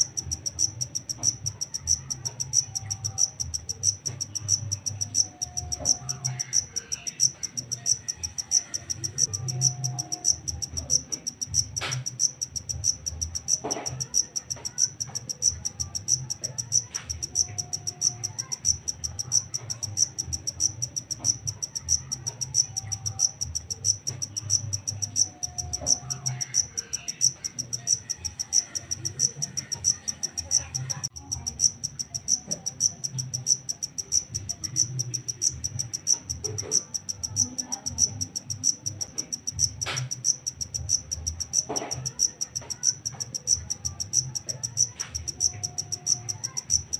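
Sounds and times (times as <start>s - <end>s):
cricket chirping: 0.0s - 46.9s.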